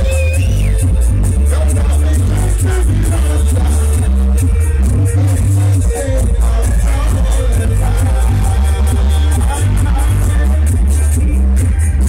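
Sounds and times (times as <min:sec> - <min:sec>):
dub reggae over sound system: 0:00.0 - 0:12.0.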